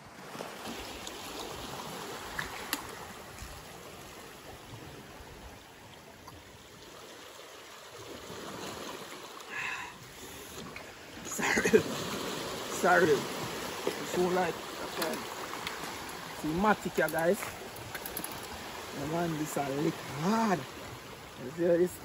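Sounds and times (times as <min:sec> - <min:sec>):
waves washing over rocks: 0:00.0 - 0:05.8, 0:06.8 - 0:22.0.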